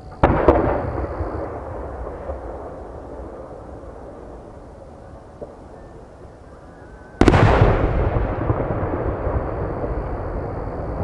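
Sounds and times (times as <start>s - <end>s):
firework booms: 0.0s - 6.4s, 7.2s - 11.0s
rolling echo: 0.0s - 11.0s.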